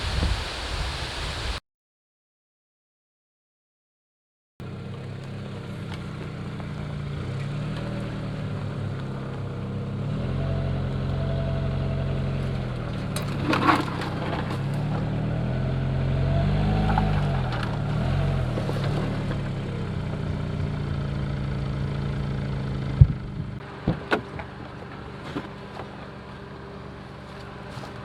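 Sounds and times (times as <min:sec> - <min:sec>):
vehicle engine revving: 0:04.6 - 0:28.0.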